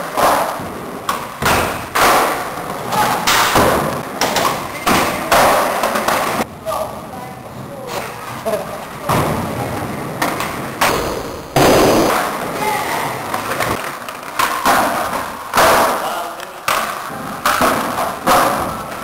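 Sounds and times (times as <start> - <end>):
skateboards popping and landing: 0.0 - 6.5, 7.9 - 19.0.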